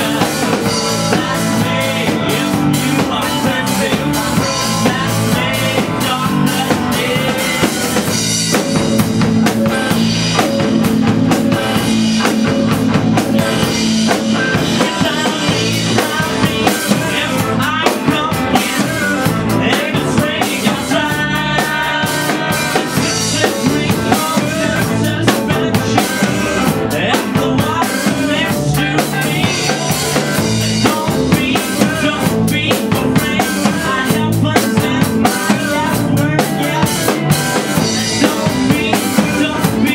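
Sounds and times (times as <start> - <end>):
drum kit beat: 0.0 - 39.9
electric guitars: 0.0 - 39.9
person singing: 0.0 - 39.9.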